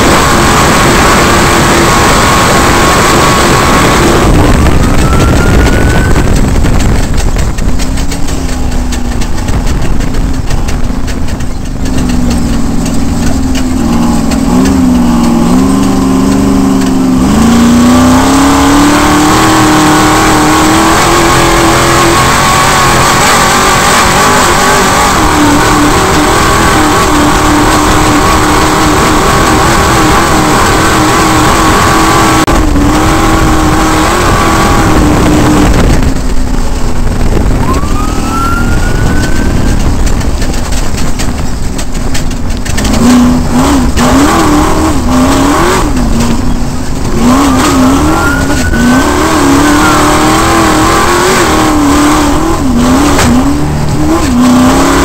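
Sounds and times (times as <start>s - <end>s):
race vehicle engine: 0.0s - 55.0s
road and wind noise: 0.0s - 55.0s.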